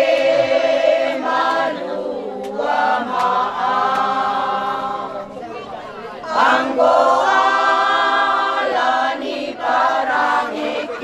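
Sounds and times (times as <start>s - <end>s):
women's choir singing: 0.0s - 11.0s.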